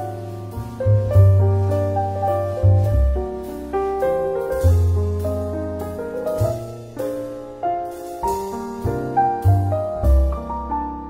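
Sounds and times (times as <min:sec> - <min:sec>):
low bass notes: 0:00.0 - 0:11.0
piano melody: 0:00.0 - 0:11.0.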